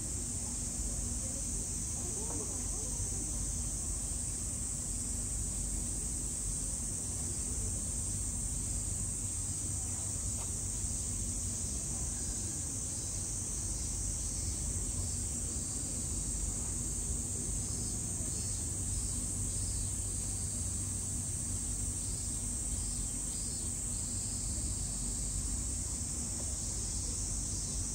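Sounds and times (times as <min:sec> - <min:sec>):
shrill insect chorus: 0:00.0 - 0:27.9.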